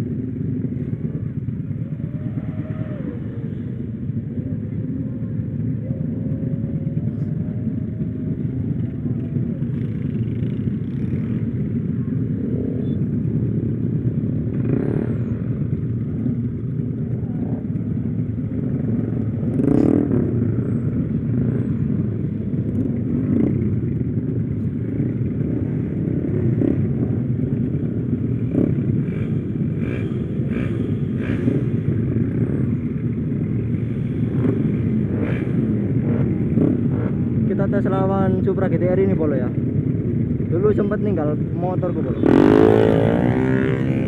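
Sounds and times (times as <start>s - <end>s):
small motorcycle engine running: 5.1s - 44.0s.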